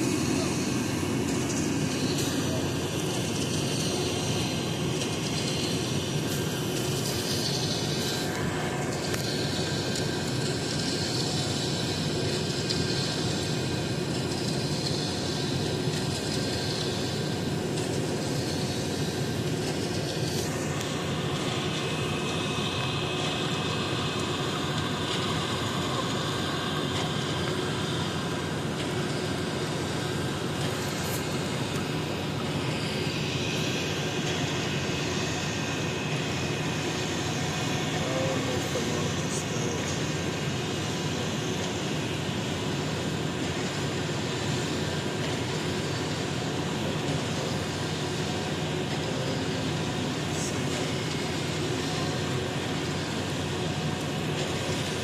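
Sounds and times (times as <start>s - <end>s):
heavy machinery engine drone: 0.0s - 55.0s.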